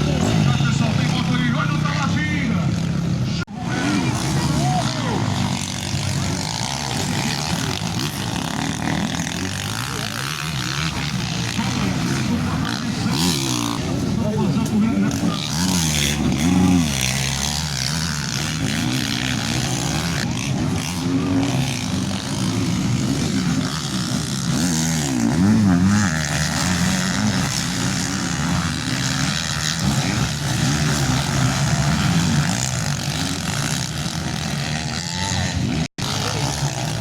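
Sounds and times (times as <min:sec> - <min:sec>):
motorcycle engines racing: 0:00.0 - 0:37.0.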